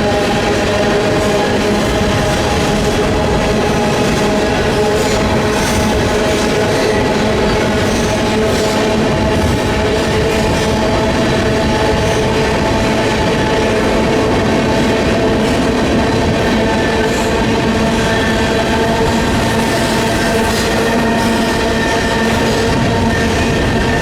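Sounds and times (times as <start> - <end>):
freight train rumbling on rails: 0.0 - 24.0.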